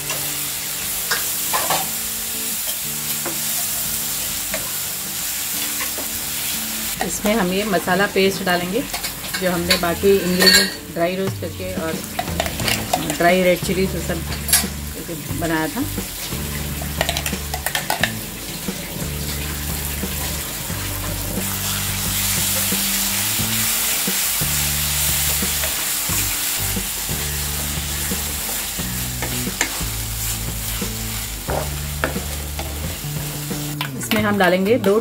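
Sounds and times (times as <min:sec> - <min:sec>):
paste sizzling in pan: 0:00.0 - 0:34.1.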